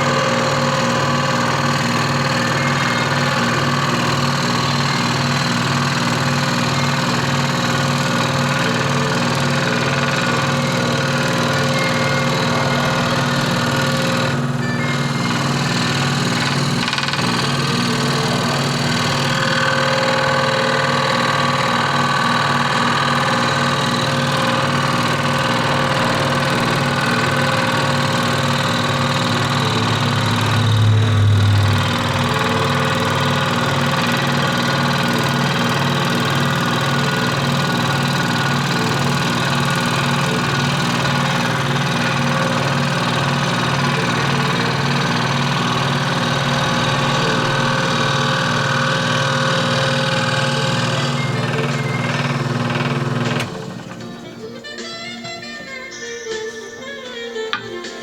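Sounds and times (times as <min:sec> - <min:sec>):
scroll saw running: 0:00.0 - 0:55.4.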